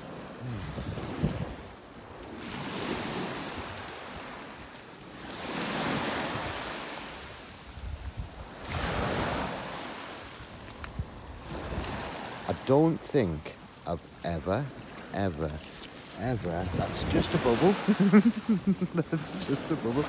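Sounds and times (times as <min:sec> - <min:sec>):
waves washing over pebbles: 0:00.0 - 0:20.0.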